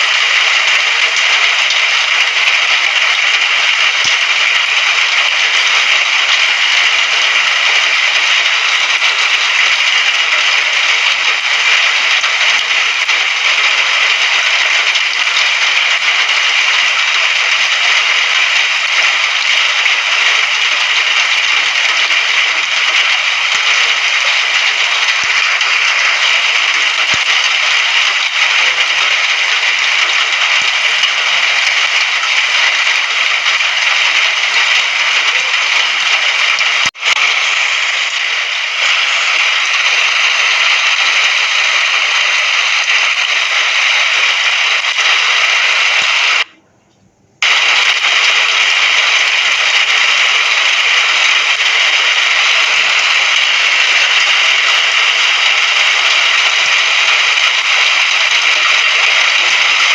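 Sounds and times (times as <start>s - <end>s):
heavy rain hissing: 0.0s - 46.6s, 47.4s - 59.9s.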